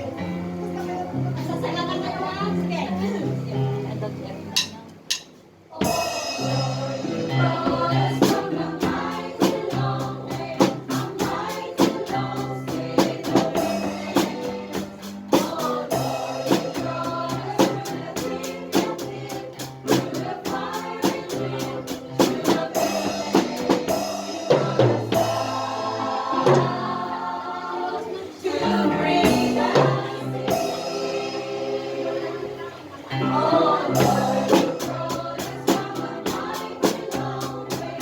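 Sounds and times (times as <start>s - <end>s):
choir singing gospel: 0.0s - 4.2s, 5.6s - 38.0s
drum kit steady beat: 4.5s - 32.0s, 33.2s - 38.0s.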